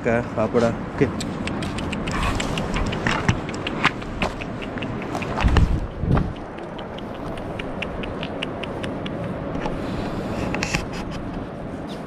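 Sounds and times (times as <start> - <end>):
rushing background noise: 0.0 - 12.0.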